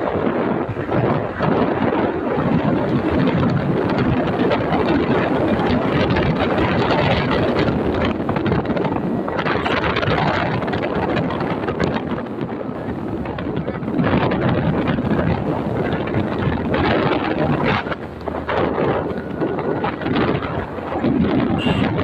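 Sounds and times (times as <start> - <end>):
motorcycle riding noise: 0.0 - 22.0
wind buffeting microphone: 0.0 - 22.0.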